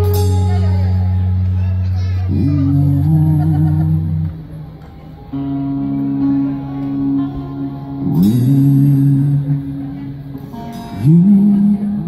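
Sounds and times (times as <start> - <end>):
rock band playing: 0.0 - 12.0.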